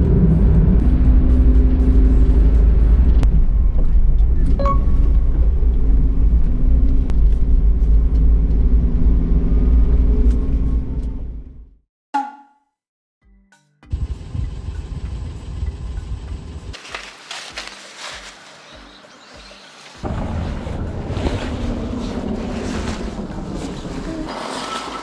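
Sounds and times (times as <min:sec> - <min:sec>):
car engine and road rumble: 0:00.0 - 0:11.7, 0:13.9 - 0:25.0.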